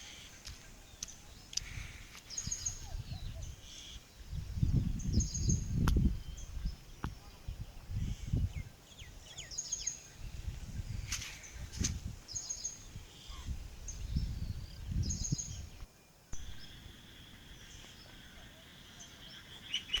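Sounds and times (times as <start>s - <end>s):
wind buffeting microphone: 0.0s - 16.7s
birds chirping: 0.0s - 20.0s.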